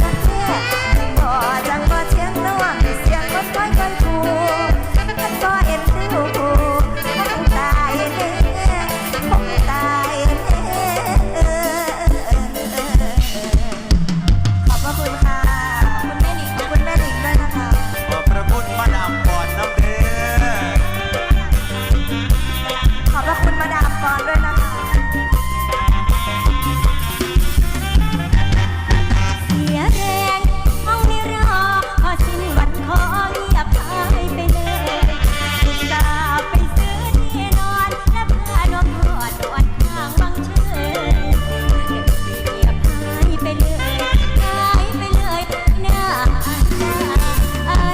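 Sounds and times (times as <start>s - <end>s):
drum kit steady beat: 0.0s - 47.9s
ornamented bending folk melody: 0.0s - 47.9s.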